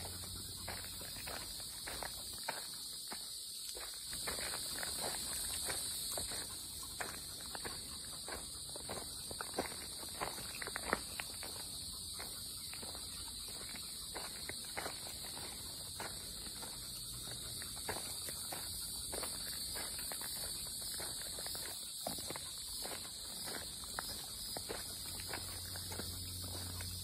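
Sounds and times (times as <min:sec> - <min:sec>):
footsteps crunching on dirt: 0:00.0 - 0:27.0
insects shrilling: 0:00.0 - 0:27.0.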